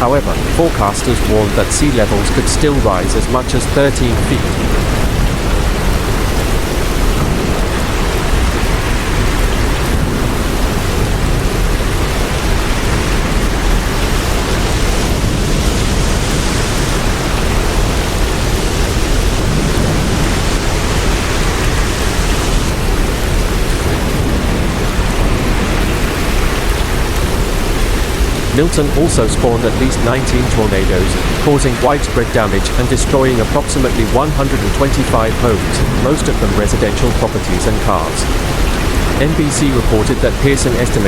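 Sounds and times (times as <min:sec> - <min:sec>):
heavy rain: 0:00.0 - 0:41.0
hurricane wind: 0:00.0 - 0:41.0.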